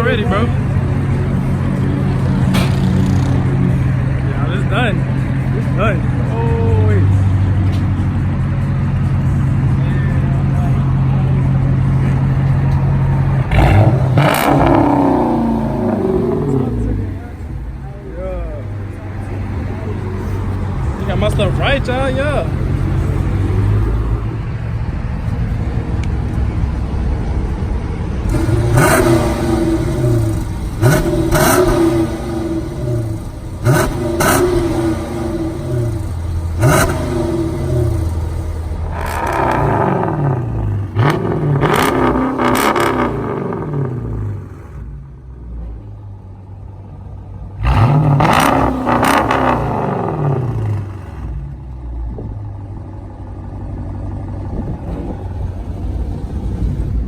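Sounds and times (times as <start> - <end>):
car engine revving and idling: 0.0 - 57.0.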